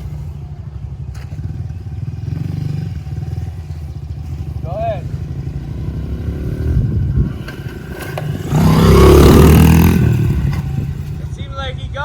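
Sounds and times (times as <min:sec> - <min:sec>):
dirt bike engine revving: 0:01.1 - 0:11.4.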